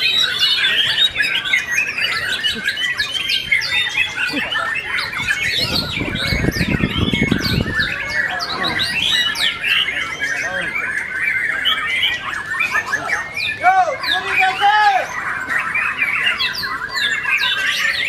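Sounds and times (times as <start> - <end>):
birds whistling and chirping: 0.0 - 18.0.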